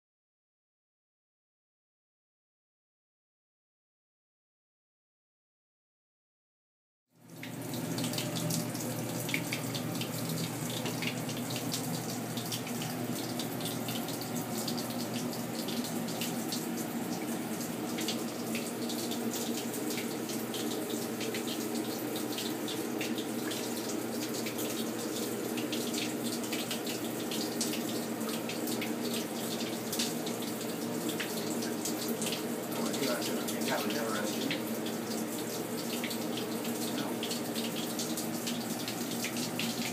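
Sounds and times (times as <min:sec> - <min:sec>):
faint water splashes: 0:07.2 - 0:39.9
tap water running into sink: 0:07.2 - 0:39.9.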